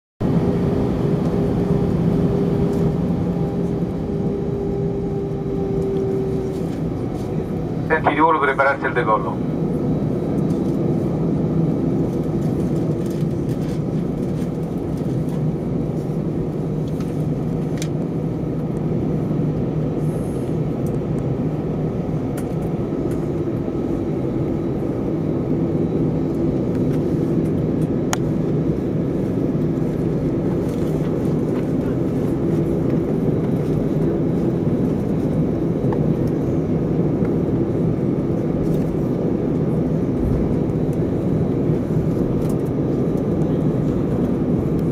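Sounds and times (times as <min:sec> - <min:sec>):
low engine drone: 0:00.2 - 0:44.9
aircraft cabin rumble while taxiing: 0:00.3 - 0:44.9.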